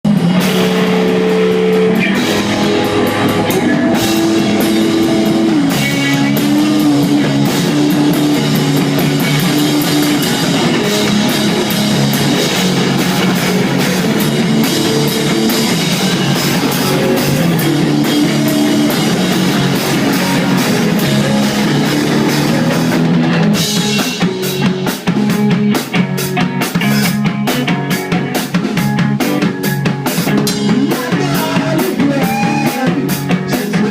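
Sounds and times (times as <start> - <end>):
rock band playing live: 0.0 - 33.9.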